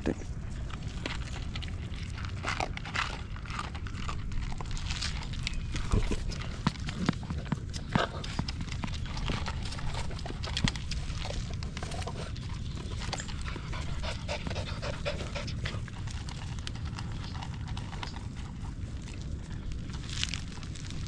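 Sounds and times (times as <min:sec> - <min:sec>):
puppies panting and licking: 0:00.0 - 0:21.0.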